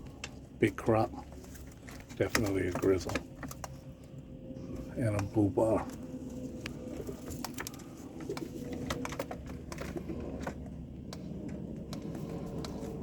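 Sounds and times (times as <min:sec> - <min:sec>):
pigeons cooing: 0:01.0 - 0:13.0.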